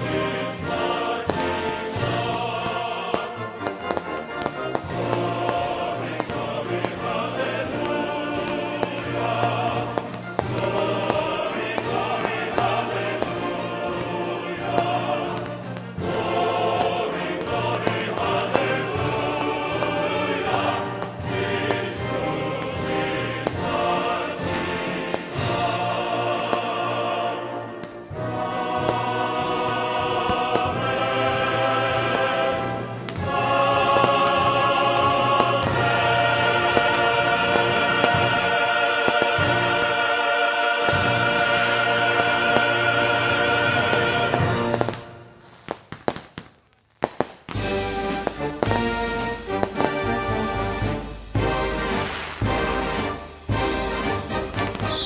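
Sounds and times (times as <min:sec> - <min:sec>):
choir singing held notes: 0:00.0 - 0:45.4, 0:47.6 - 0:55.0
sharp cracks: 0:00.5 - 0:50.2, 0:51.4 - 0:53.2.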